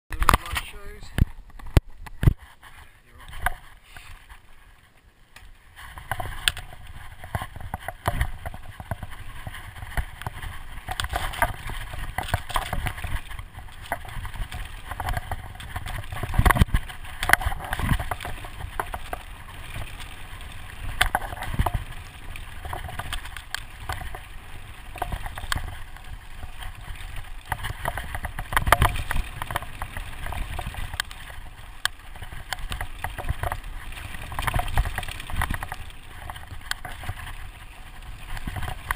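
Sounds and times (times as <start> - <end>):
bike rattling and knocking: 0.1 - 38.9.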